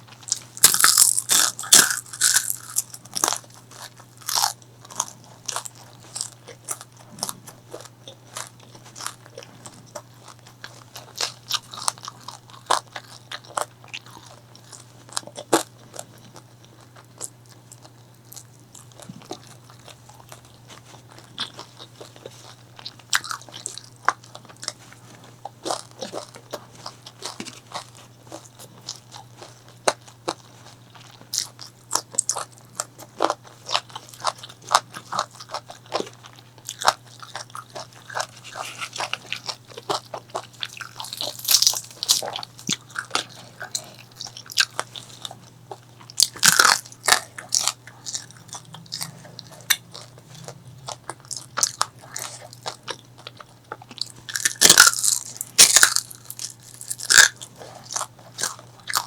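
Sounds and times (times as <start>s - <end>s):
crunchy bites and chewing: 0.0s - 59.0s
faint low hum: 0.0s - 59.0s.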